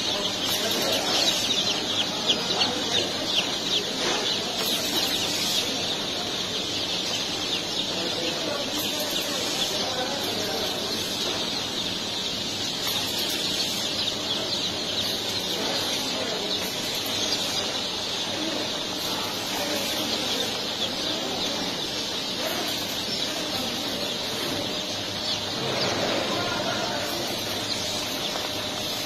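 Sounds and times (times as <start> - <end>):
chicks peeping: 0.0 - 29.0
low machine hum: 0.0 - 29.0.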